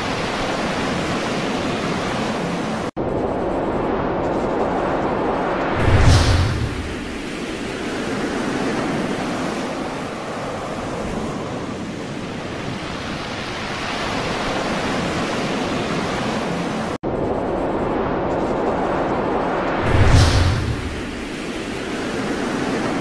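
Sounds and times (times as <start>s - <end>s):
heavy seas rushing: 0.0s - 23.0s
storm wind: 0.0s - 23.0s.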